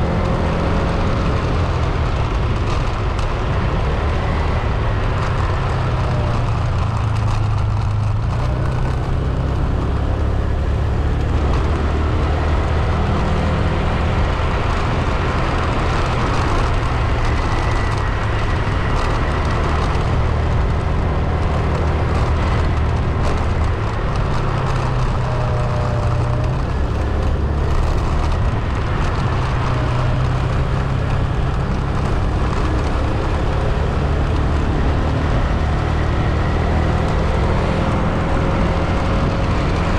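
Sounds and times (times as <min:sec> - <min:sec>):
vehicle driving on road: 0:00.0 - 0:39.9.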